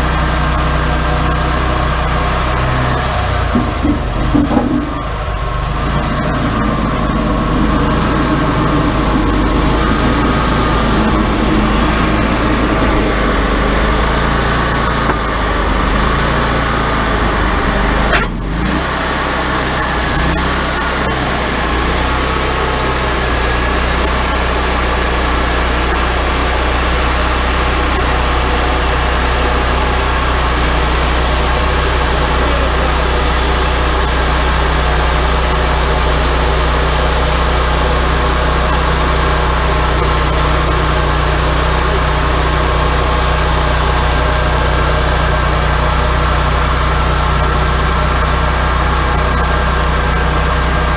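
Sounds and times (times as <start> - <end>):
sawmill running: 0.0 - 50.9.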